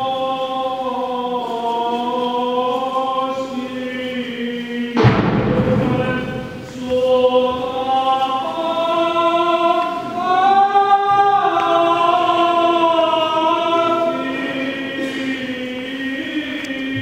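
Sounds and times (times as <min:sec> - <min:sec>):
liturgical chant: 0:00.0 - 0:17.0.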